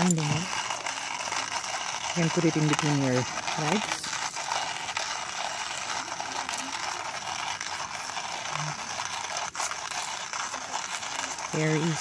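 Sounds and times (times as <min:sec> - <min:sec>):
hand coffee grinder crunching: 0:00.0 - 0:12.0.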